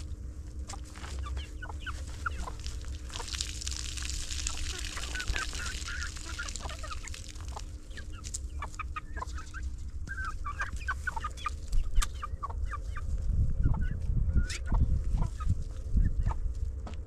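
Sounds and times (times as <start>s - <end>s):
steady low rumble: 0.0s - 17.0s
chickens clucking: 0.6s - 3.4s, 4.4s - 17.0s.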